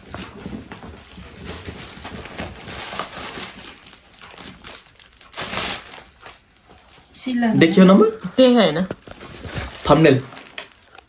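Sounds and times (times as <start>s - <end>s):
carry bag crinkling: 0.0s - 7.2s, 8.8s - 11.0s.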